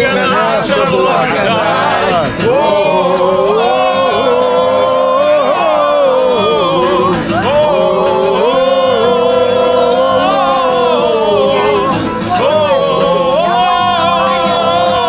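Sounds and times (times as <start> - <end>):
group singing long held notes: 0.0 - 15.0.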